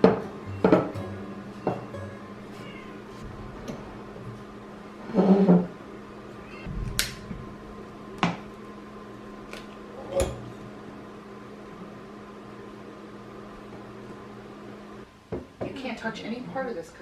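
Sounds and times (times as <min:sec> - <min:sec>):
kitchen appliance humming: 0:00.0 - 0:15.1.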